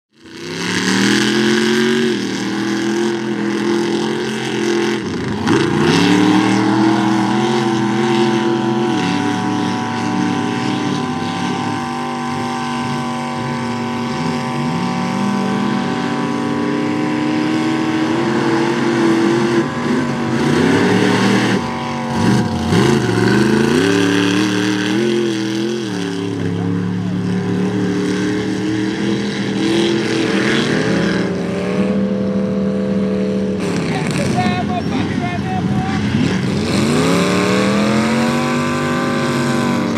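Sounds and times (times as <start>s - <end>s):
truck engine revving: 0.1s - 39.9s.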